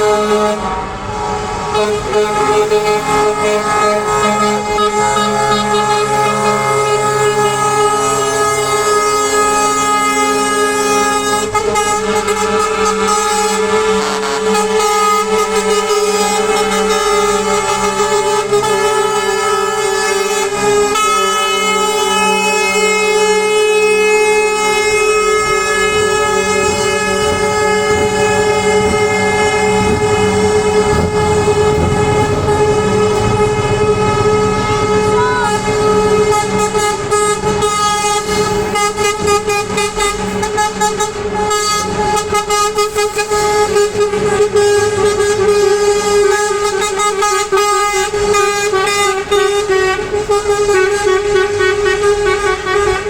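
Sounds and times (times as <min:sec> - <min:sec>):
diesel engines rumbling: 0:00.0 - 0:53.0
truck air horns: 0:00.0 - 0:53.0.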